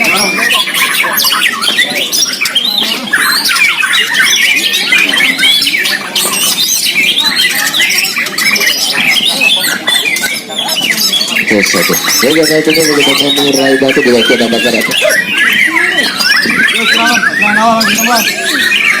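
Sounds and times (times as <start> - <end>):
birds singing whistles and chatter: 0.0 - 19.0.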